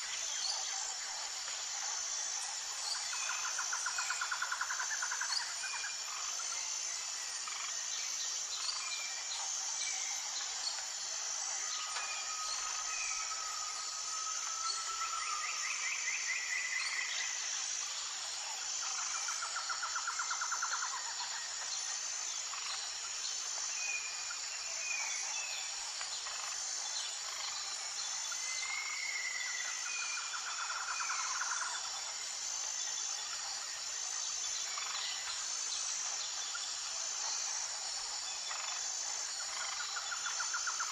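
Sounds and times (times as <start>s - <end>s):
pulsing insect chorus: 0.0s - 40.9s.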